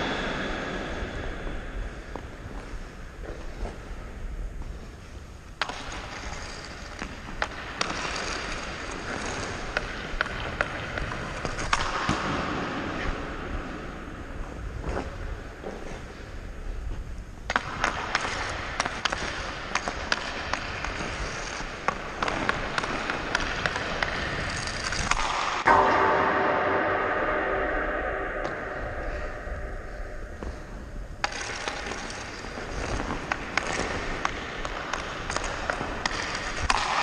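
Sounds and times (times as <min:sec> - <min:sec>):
skate blades scraping on ice: 0:00.2 - 0:25.7, 0:30.4 - 0:37.0.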